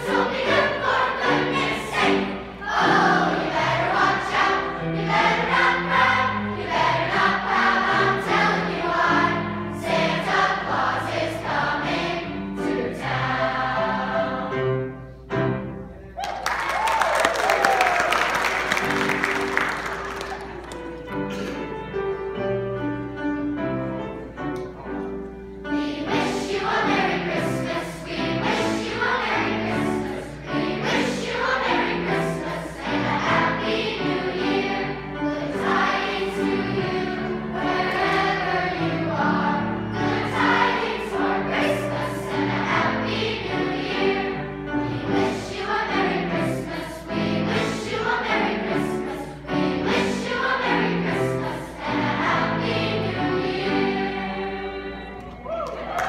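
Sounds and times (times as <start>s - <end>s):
children's choir singing: 0.0s - 15.7s, 17.8s - 55.5s.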